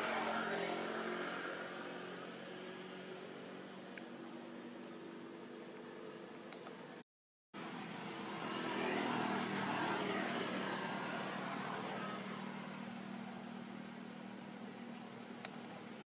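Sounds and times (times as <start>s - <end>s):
motor vehicle passing: 0.0s - 6.3s, 7.6s - 16.0s.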